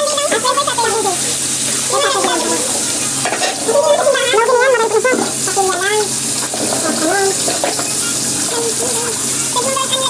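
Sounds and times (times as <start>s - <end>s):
high voice: 0.0s - 3.0s, 3.6s - 7.5s, 8.4s - 10.0s
food sizzling in hot oil: 0.0s - 10.0s.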